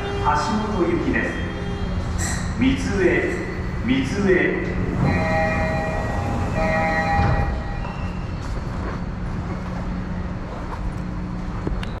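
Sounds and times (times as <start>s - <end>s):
station background rumble: 0.0s - 12.0s
train low hum: 0.0s - 12.0s.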